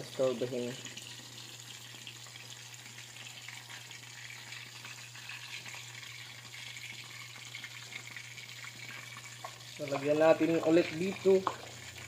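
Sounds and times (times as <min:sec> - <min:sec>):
deep-frying sizzle with crackling: 0:00.0 - 0:12.0.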